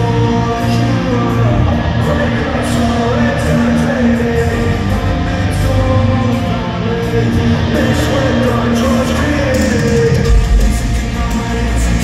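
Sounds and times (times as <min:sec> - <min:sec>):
electric guitar: 0:00.0 - 0:12.0
live rock music over sound system: 0:00.0 - 0:12.0.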